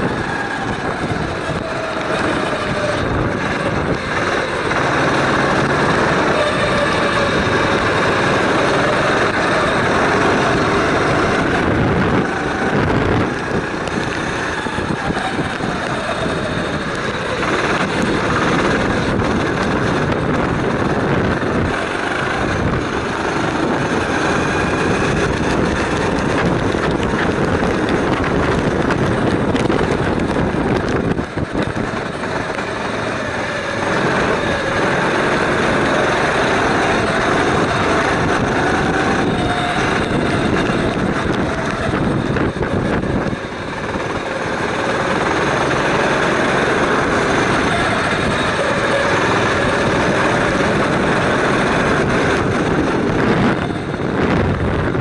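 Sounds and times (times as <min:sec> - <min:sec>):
kart engine running at speed: 0:00.0 - 0:55.0.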